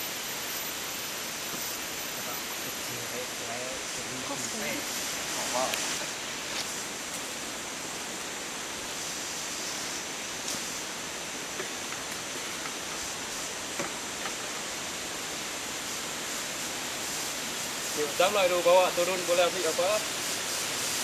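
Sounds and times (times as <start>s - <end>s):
rainforest ambience hiss: 0.0s - 21.0s.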